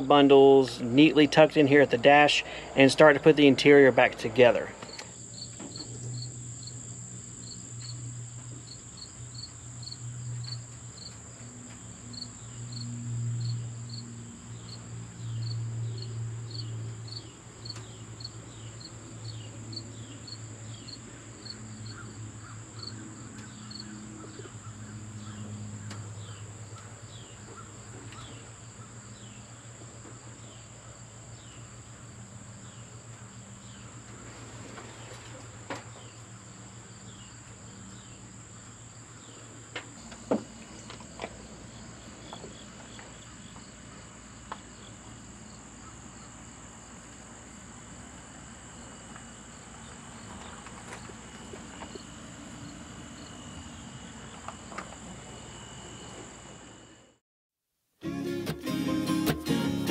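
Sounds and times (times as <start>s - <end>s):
crickets chirping: 0.0s - 57.2s.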